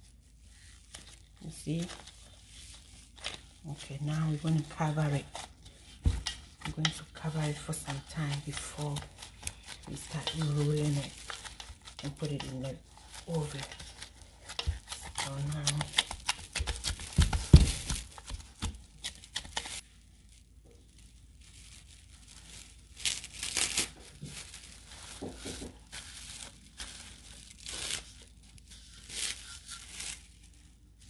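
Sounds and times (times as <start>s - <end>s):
food wrap tearing and crinkling: 0.0s - 31.0s.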